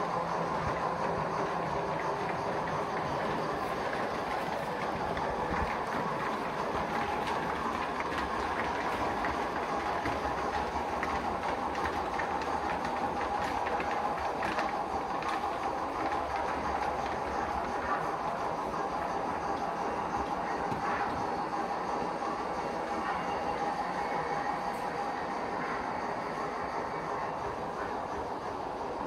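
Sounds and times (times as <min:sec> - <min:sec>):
model train rolling whir: 0:00.0 - 0:29.0
wheels clicking over rails: 0:00.0 - 0:29.0.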